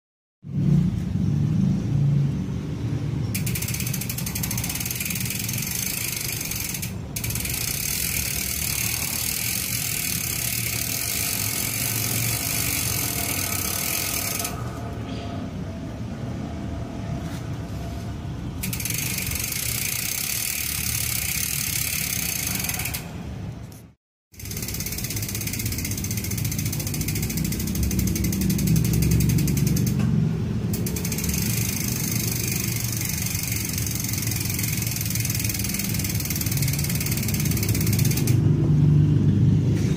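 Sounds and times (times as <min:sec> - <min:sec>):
bicycle freehub clicking buzz: 0:03.2 - 0:15.0, 0:18.6 - 0:39.0.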